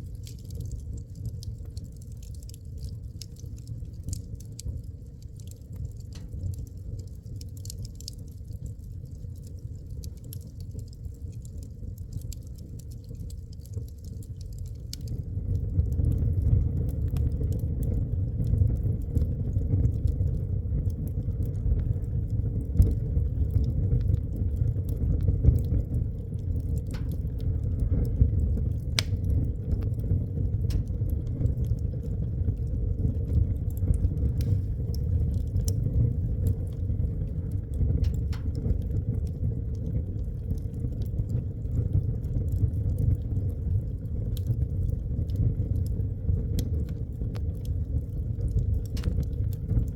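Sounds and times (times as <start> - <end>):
fire crackles and pops: 0.0 - 49.9
rumble of flames: 0.0 - 49.9.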